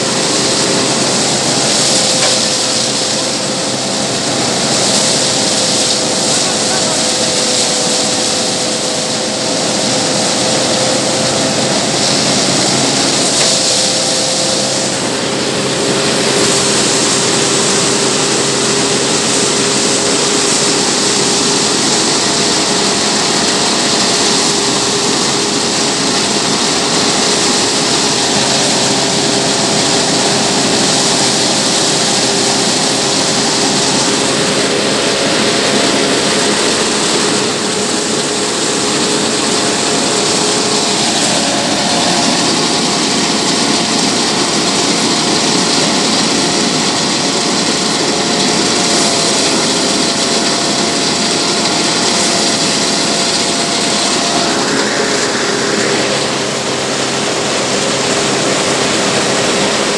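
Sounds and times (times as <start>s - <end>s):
thresher machine whirring: 0.0s - 59.9s.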